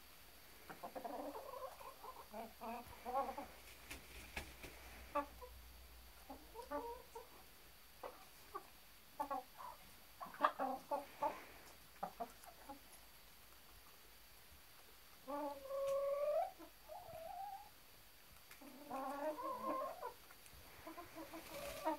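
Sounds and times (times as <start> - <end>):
hens clucking: 0.6 - 13.2, 15.2 - 17.8, 18.5 - 21.9.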